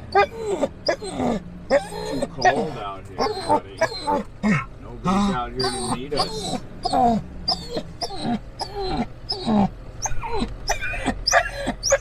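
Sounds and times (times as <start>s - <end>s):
dog whining and yelping: 0.0s - 4.6s, 5.2s - 12.0s.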